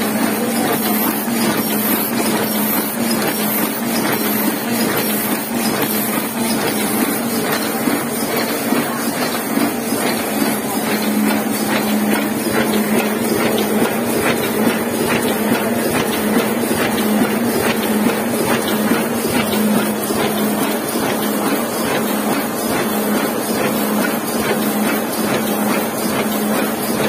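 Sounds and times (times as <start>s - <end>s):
printing press running: 0.0s - 27.0s.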